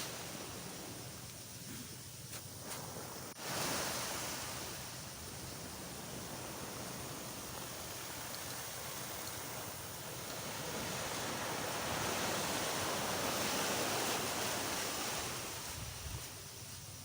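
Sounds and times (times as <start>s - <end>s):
sea waves washing on a beach: 0.0s - 17.0s.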